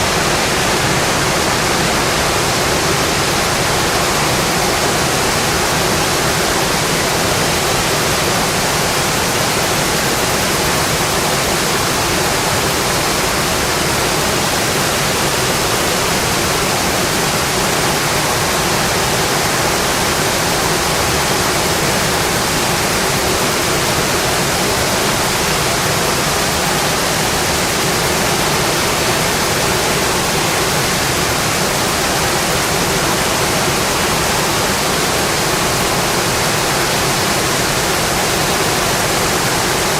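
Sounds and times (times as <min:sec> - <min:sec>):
rain drumming on a metal roof: 0:00.0 - 0:39.9.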